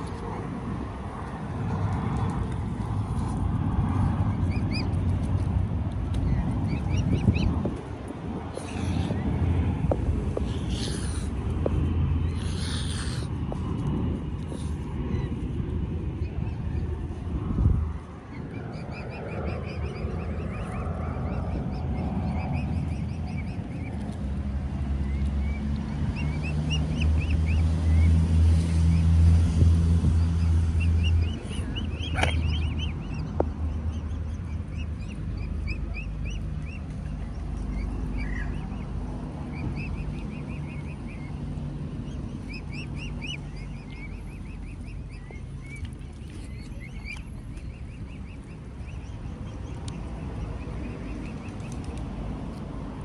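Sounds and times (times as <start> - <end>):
cygnets peeping: 4.1 - 15.5, 16.1 - 24.3, 24.9 - 52.8.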